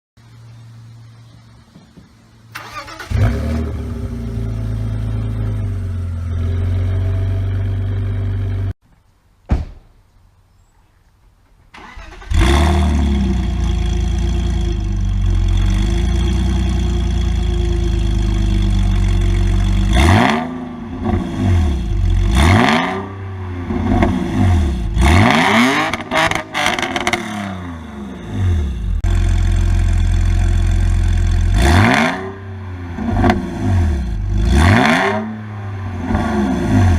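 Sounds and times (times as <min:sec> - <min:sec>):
car engine starting and idling: 0:02.4 - 0:08.8, 0:11.7 - 0:36.9
car engine revving: 0:02.6 - 0:08.8, 0:11.8 - 0:36.9.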